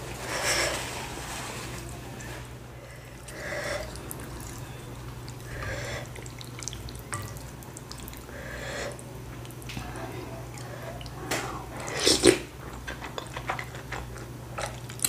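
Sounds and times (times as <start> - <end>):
wet sloppy noodle sounds: 0.2 - 15.0.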